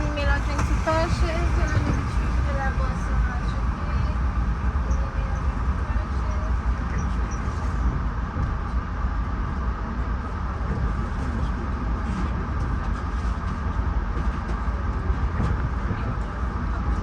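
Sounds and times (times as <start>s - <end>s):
train car low rumble: 0.0s - 17.0s.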